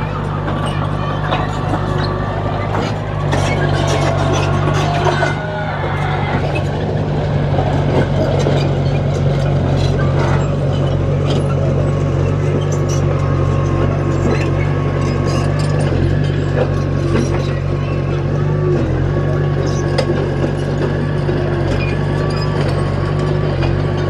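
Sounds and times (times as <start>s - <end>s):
diesel machine engine running: 0.0s - 24.0s.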